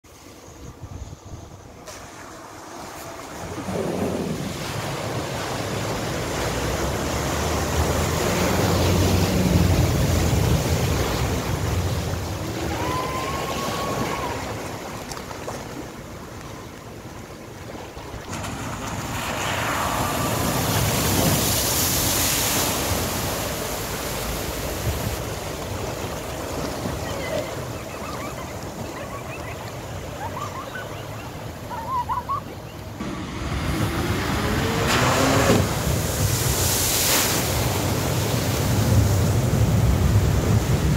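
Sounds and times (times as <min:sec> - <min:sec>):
floodwater surging and splashing: 0:01.6 - 0:40.9.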